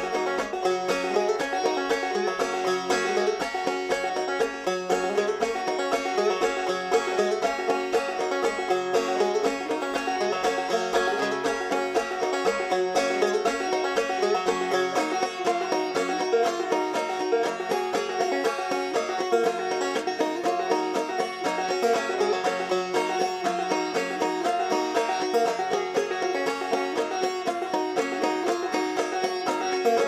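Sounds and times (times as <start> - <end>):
plucked string instrument: 0.0 - 30.0.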